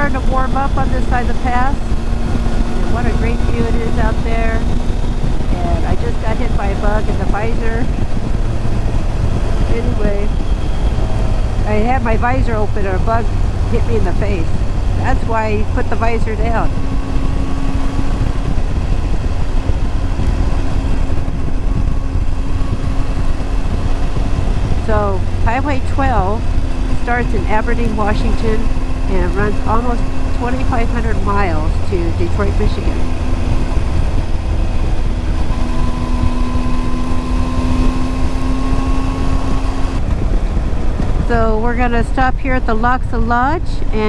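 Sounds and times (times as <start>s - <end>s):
motorcycle engine running: 0.0s - 44.0s
wind and road rush: 0.0s - 44.0s.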